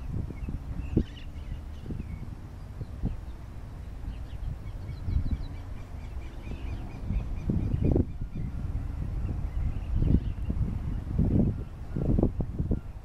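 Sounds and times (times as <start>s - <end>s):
low outdoor rumble: 0.0s - 13.0s
small birds chirping: 0.0s - 13.0s.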